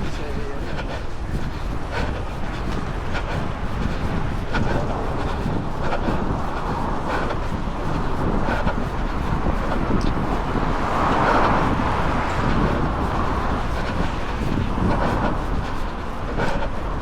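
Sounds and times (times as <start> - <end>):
car passing: 0.0 - 17.0
road traffic: 0.0 - 17.0
wind buffeting microphone: 0.0 - 17.0.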